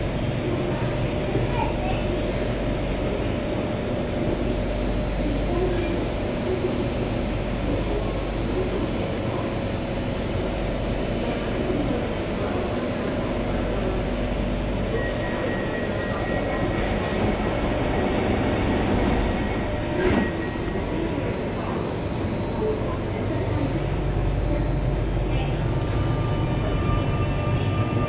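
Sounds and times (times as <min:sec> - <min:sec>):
train equipment hum: 0:00.0 - 0:28.0.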